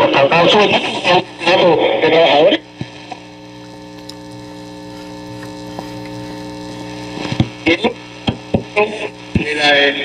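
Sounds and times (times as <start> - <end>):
radio crackles: 0.0 - 10.0
radio mains hum: 0.0 - 10.0.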